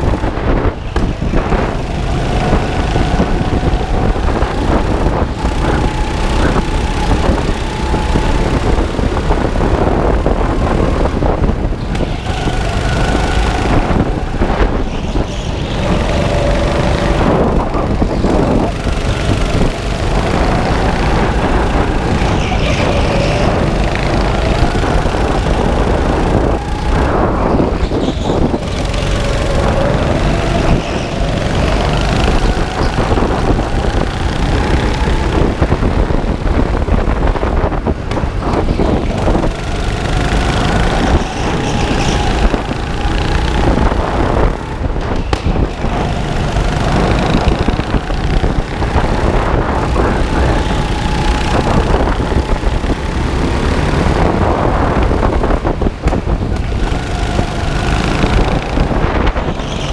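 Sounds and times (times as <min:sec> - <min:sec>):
go-kart motor revving: 0:00.0 - 0:59.9
vibration and tyre rumble: 0:00.0 - 0:59.9.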